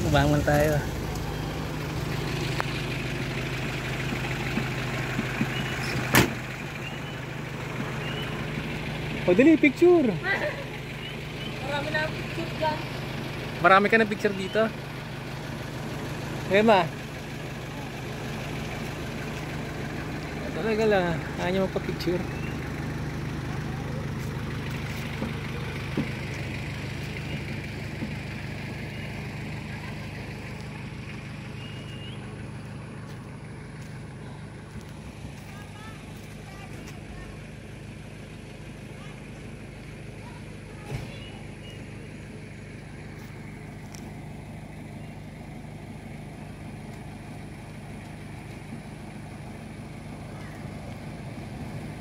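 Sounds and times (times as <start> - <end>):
small motorcycle engine running: 6.9 - 14.6, 16.4 - 52.0.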